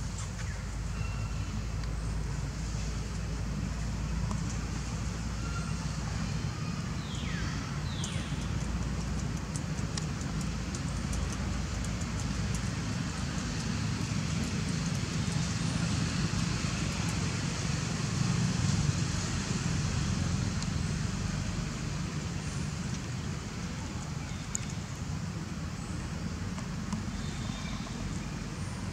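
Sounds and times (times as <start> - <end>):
outdoor background rumble: 0.0 - 28.9.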